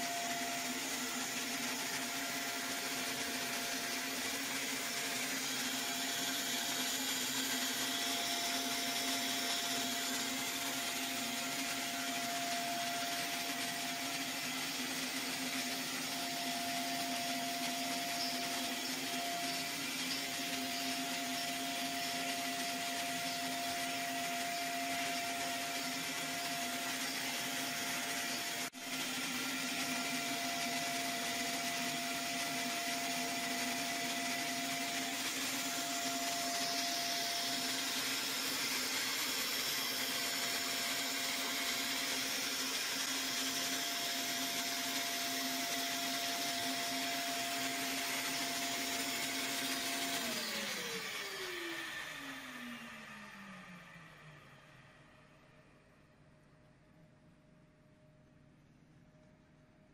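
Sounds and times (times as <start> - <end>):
lathe motor whir and hiss: 0.0 - 55.1
machine whine: 0.0 - 56.1.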